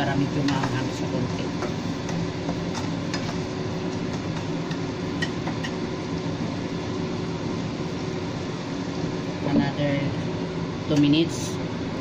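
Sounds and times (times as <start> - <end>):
kitchen fan hum: 0.0 - 12.0.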